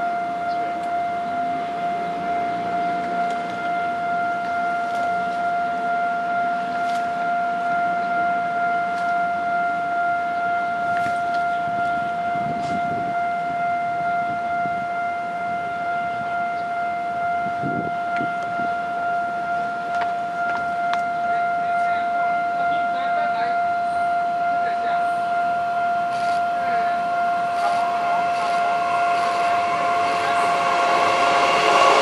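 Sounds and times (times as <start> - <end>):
level crossing alarm high tone: 0.0 - 32.0.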